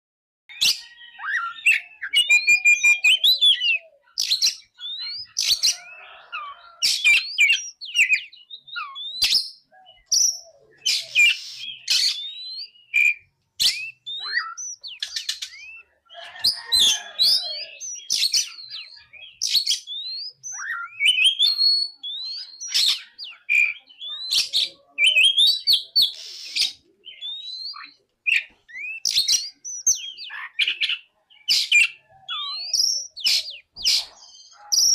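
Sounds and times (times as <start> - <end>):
bird singing varied song: 0.5 - 34.9.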